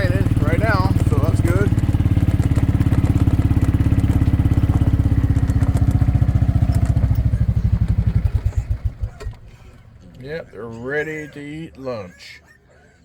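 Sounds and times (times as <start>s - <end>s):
farm vehicle engine chugging: 0.0s - 12.4s.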